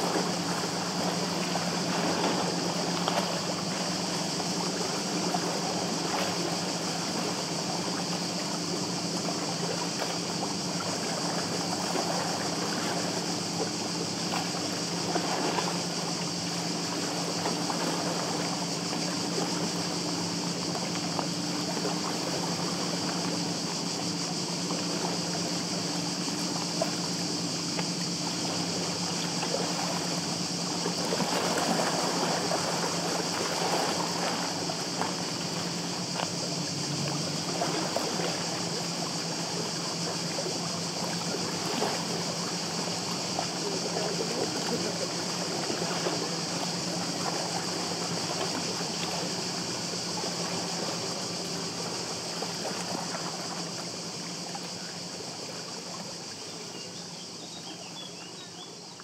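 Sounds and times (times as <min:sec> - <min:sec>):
lake waves lapping: 0:00.0 - 0:59.0.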